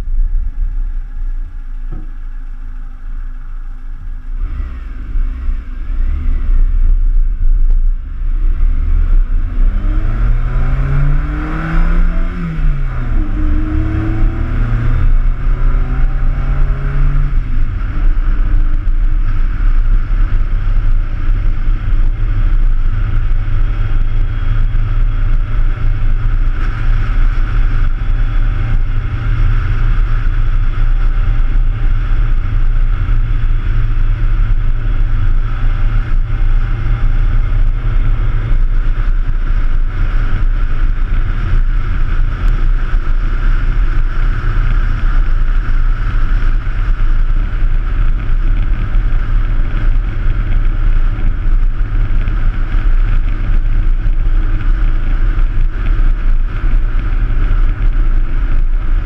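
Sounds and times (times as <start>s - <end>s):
car engine pulling uphill: 0.0s - 59.0s
wind and road noise rumble: 0.0s - 59.0s.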